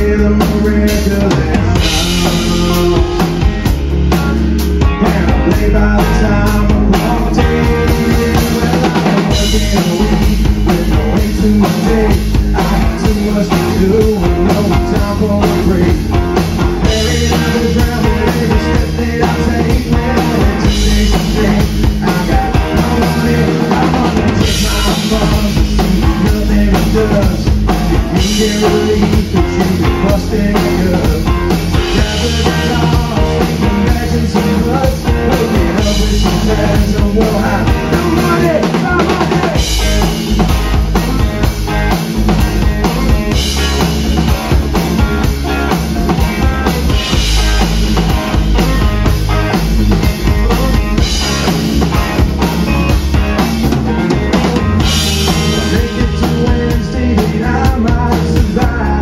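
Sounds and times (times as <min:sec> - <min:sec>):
drum kit beat: 0:00.0 - 0:59.0
live country band: 0:00.0 - 0:59.0.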